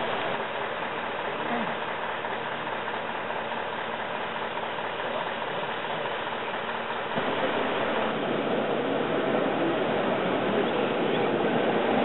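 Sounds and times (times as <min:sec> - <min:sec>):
fire engine idling: 0:00.0 - 0:12.0.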